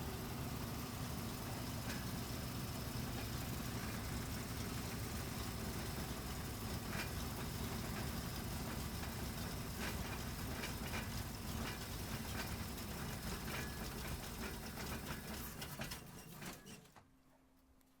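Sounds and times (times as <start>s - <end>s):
bus engine running: 0.0s - 16.6s.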